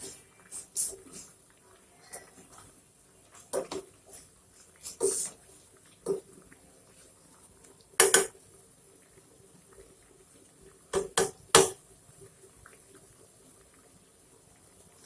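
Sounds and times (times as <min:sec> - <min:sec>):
water simmering in pot: 0:00.0 - 0:15.0.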